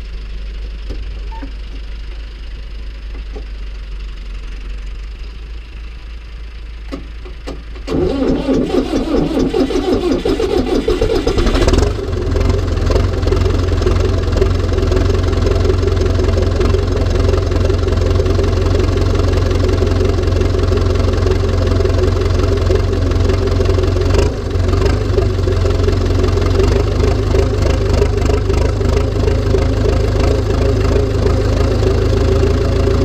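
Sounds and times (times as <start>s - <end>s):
tractor diesel engine starting: 0.0s - 33.0s.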